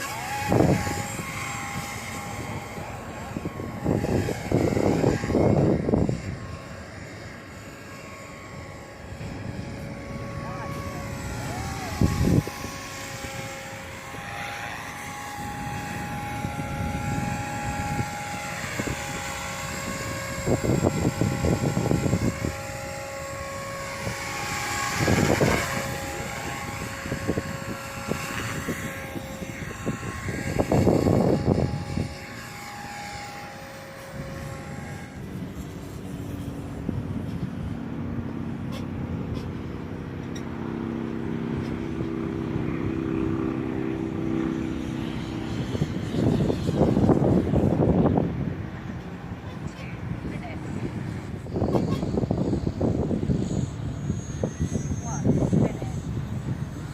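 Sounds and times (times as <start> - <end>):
model aircraft motor whining: 0.0 - 56.9
wind gusts buffeting microphone: 0.0 - 56.9.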